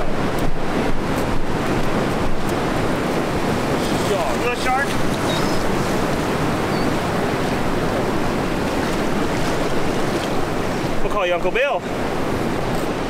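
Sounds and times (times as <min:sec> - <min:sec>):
waves breaking on sandy beach: 0:00.0 - 0:13.0.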